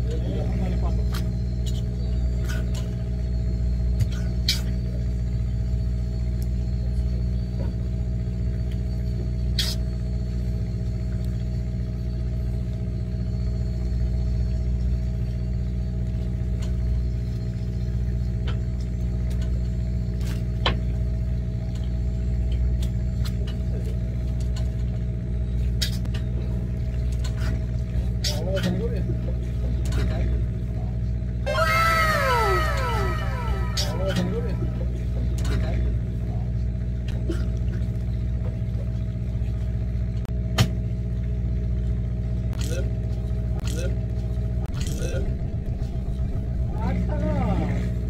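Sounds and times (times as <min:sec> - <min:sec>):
boat engine droning: 0:00.0 - 0:40.2, 0:40.8 - 0:48.0.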